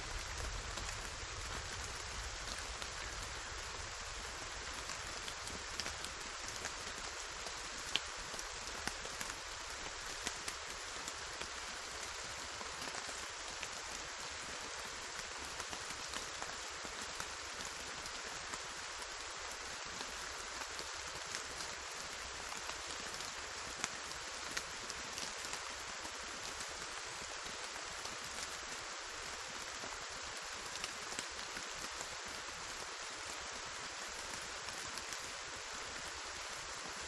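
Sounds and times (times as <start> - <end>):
raindrops ticking: 0.0 - 36.5
rain hissing: 0.0 - 37.0.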